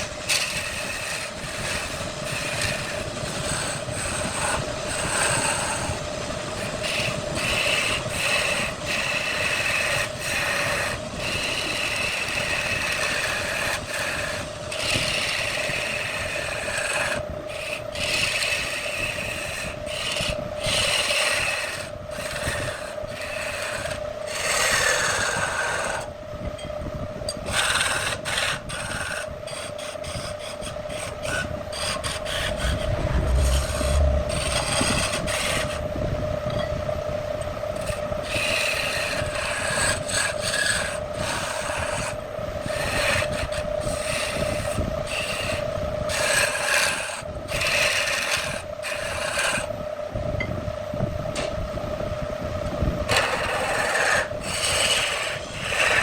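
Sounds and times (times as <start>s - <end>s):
turning tool scraping wood: 0.0s - 26.2s, 27.3s - 36.0s, 37.7s - 49.8s, 53.1s - 56.0s
wood lathe humming: 0.0s - 26.2s, 27.3s - 36.6s, 37.7s - 49.7s, 53.1s - 56.0s.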